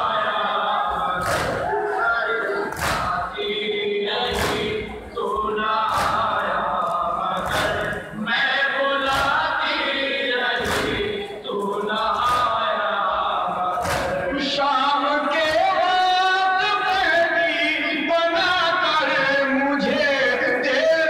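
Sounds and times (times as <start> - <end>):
crowd of men chanting: 0.0 - 21.0.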